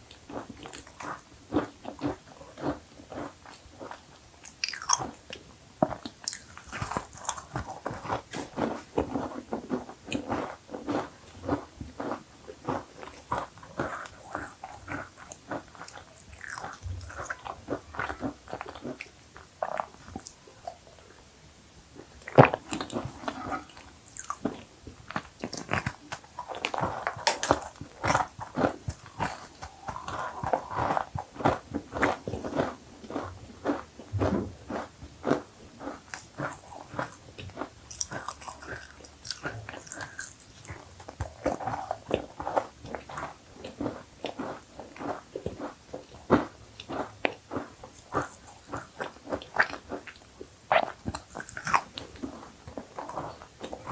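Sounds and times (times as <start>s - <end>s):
crunching and chewing cookies: 0.0s - 53.9s.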